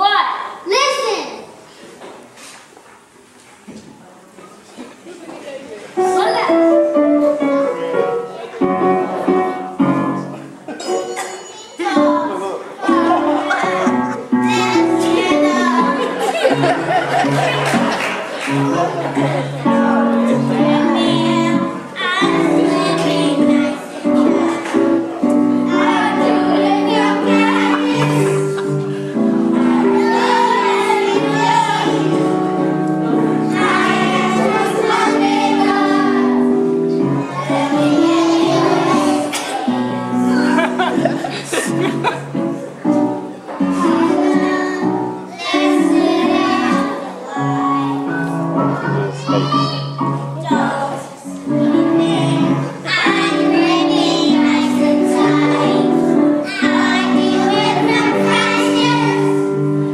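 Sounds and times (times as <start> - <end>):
children's choir singing: 6.0 - 59.9
musical accompaniment: 6.0 - 59.9.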